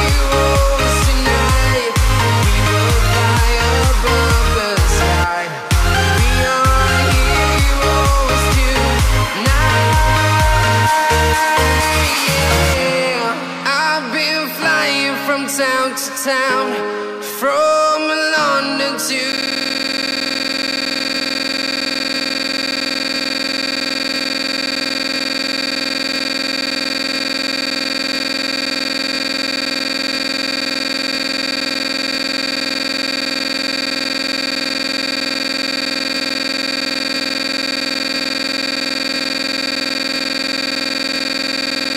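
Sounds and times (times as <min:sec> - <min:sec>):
electronic buzz with fixed tones: 0:00.0 - 0:14.0, 0:18.3 - 0:41.9.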